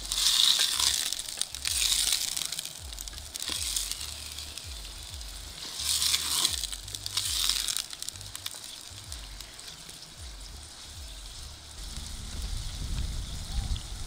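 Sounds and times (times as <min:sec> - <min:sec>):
low rumble: 0:00.0 - 0:09.6, 0:10.2 - 0:14.0
meat sizzling in a pan: 0:00.0 - 0:14.0.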